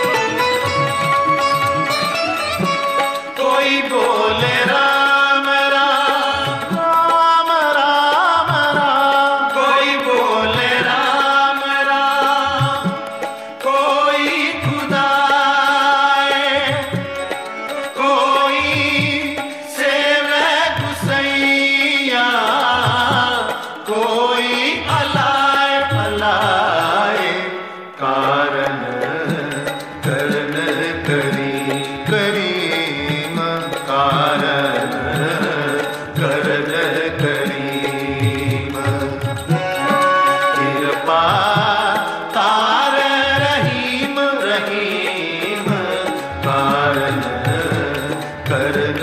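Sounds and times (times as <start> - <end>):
instrumental accompaniment: 0.0 - 49.0
person singing devotional song: 0.0 - 49.0.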